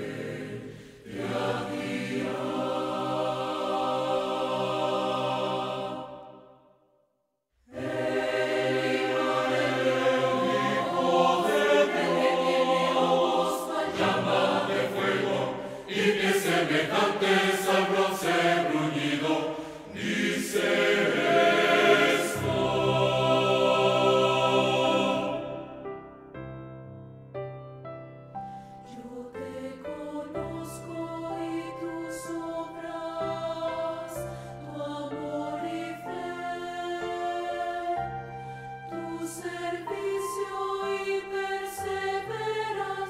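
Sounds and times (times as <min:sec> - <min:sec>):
mixed choir singing: 0:00.0 - 0:06.7, 0:07.7 - 0:26.0, 0:28.8 - 0:43.0.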